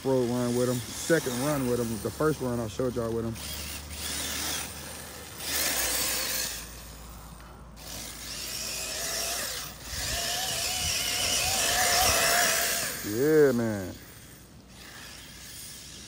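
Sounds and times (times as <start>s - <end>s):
electric motor whining: 0.0s - 7.1s, 7.8s - 16.0s.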